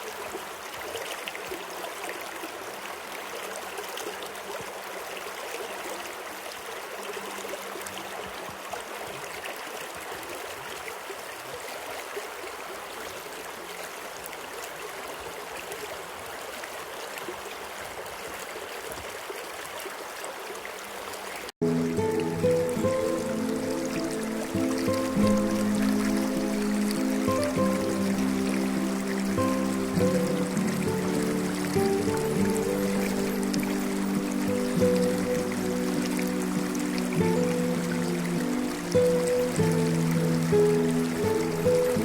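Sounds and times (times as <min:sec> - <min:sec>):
running water: 0:00.0 - 0:42.0.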